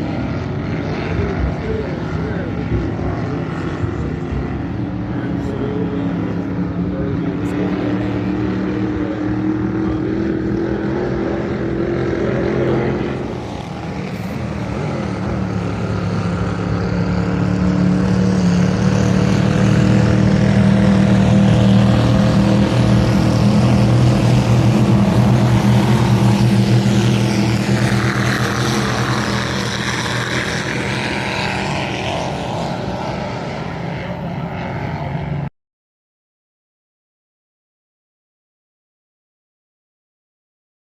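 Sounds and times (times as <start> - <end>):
speedboat engines running: 0.0 - 35.5.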